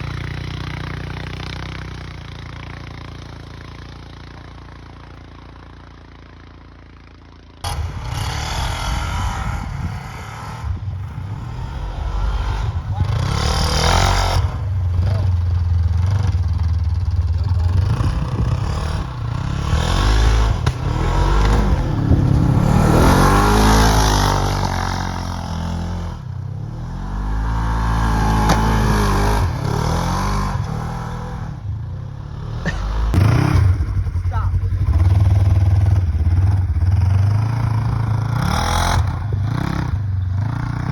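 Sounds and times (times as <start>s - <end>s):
vehicle engine revving: 7.6s - 40.9s.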